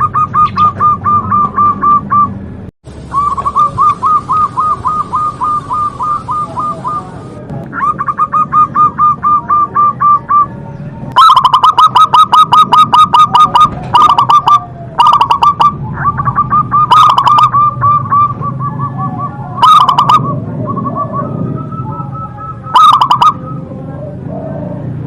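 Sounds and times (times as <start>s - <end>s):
doves cooing: 0.0s - 2.4s, 3.0s - 25.0s.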